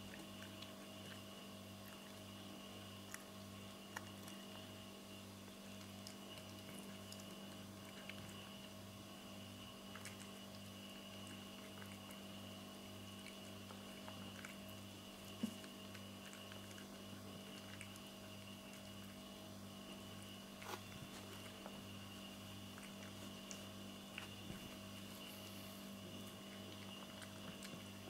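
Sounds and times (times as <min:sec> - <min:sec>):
cat chewing and licking: 0:00.0 - 0:28.0.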